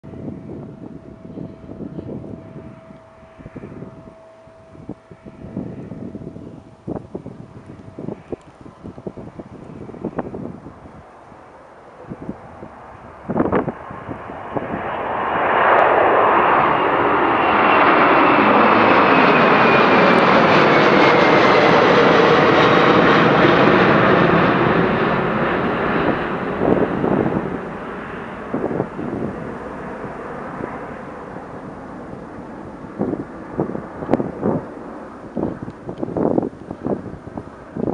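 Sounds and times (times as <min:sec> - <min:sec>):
jet engine whine: 0:00.0 - 0:37.9
wind buffeting microphone: 0:00.0 - 0:37.9
jet aircraft taking off: 0:00.1 - 0:37.9.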